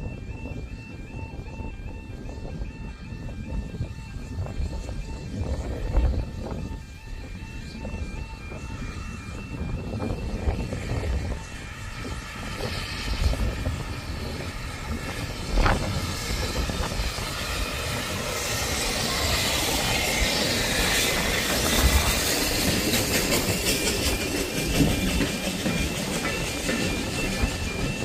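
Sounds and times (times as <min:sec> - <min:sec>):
steam locomotive working: 0:00.0 - 0:28.0.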